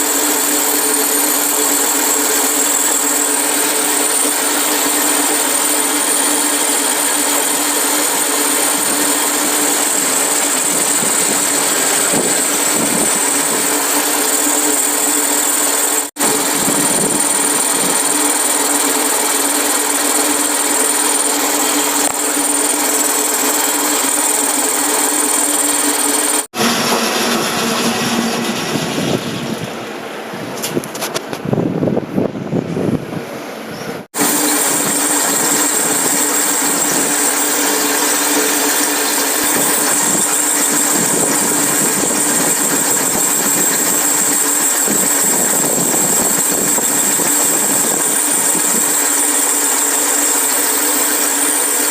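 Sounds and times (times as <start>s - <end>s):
power tool running: 0.0s - 29.8s, 34.2s - 51.9s.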